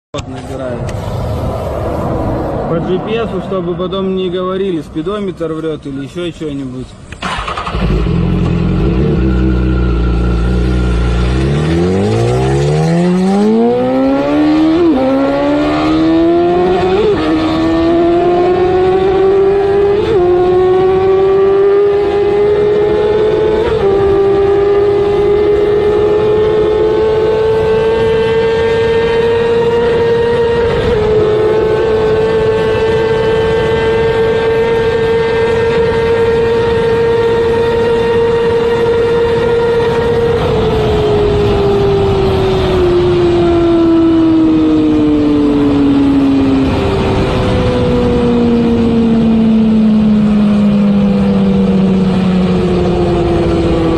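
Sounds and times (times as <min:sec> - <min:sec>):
wind noise: 0:00.2 - 0:06.0, 0:06.9 - 0:53.9
motorcycle engine accelerating: 0:07.1 - 0:53.9.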